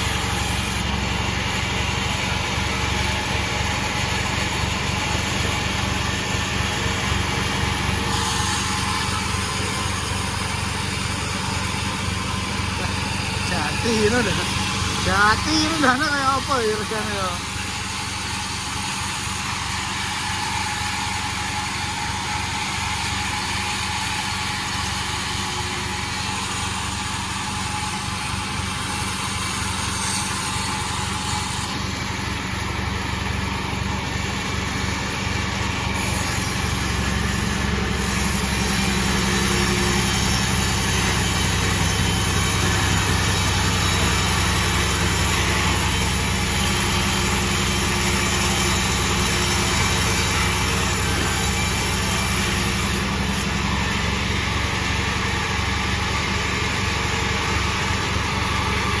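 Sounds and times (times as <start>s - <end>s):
sawmill machine droning: 0.0s - 59.0s.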